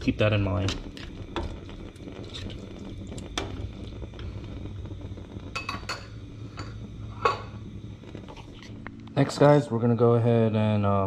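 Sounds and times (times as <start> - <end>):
light sizzle: 0.0 - 11.0.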